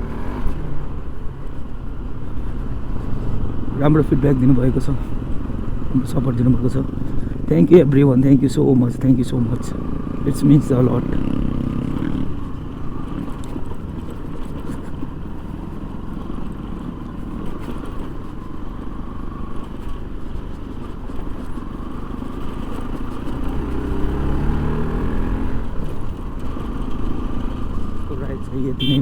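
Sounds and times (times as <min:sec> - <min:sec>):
motorcycle engine rumbling: 0:00.0 - 0:29.0.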